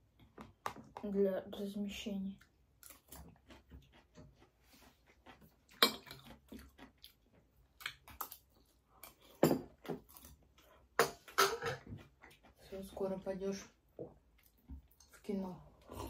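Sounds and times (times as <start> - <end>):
chewing and mouth sounds: 2.3 - 16.0.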